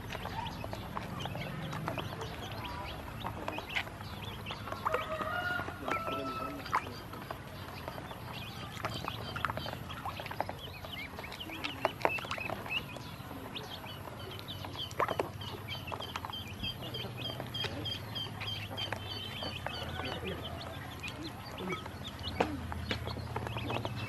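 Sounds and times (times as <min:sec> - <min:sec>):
ducklings peeping: 0:00.0 - 0:24.0.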